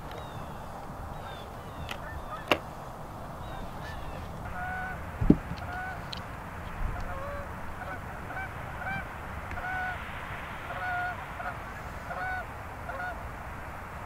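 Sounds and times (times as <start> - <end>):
geese honking: 0.0 - 13.2.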